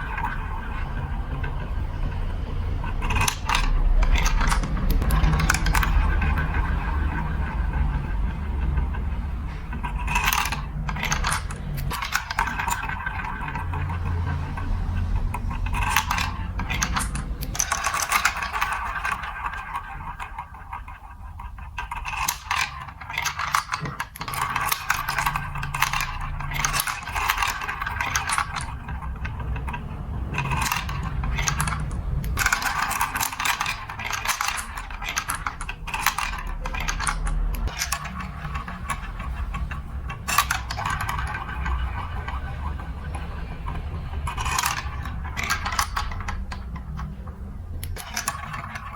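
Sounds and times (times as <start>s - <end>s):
glass marbles rolling on plastic track: 0.0s - 48.9s
marbles clicking: 0.0s - 48.9s.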